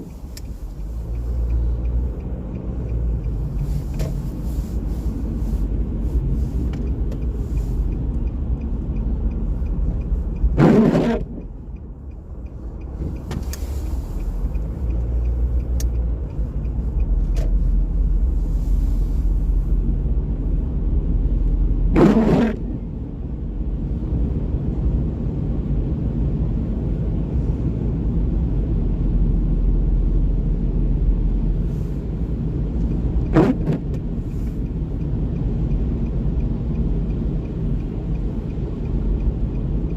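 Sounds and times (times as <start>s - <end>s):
road and engine rumble: 0.0s - 39.9s
tyres swishing on wet road: 0.0s - 39.9s.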